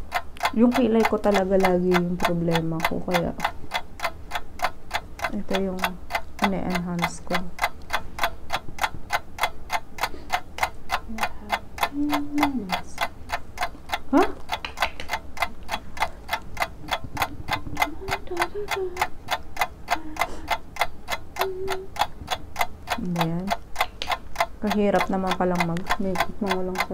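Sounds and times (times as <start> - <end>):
fast clock ticking: 0.0 - 26.9.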